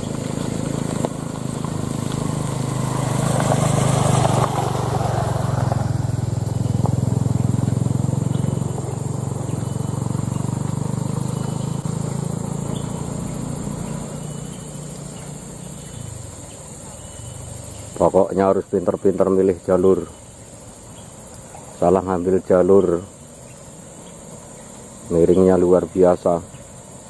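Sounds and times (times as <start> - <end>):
diesel truck engines driving: 0.0 - 27.0.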